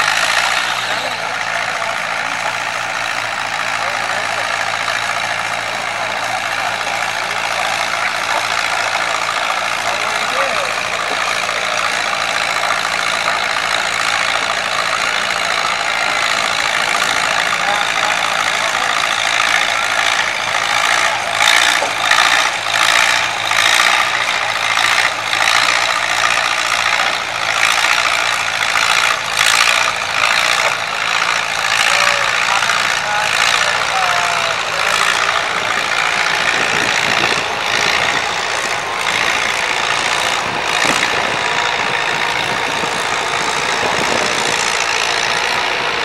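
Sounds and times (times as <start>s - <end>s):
tractor engine running under load: 0.0s - 46.0s.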